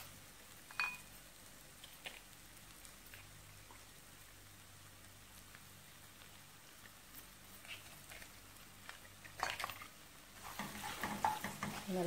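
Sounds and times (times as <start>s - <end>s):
egg crackling in a pan: 0.0s - 12.0s.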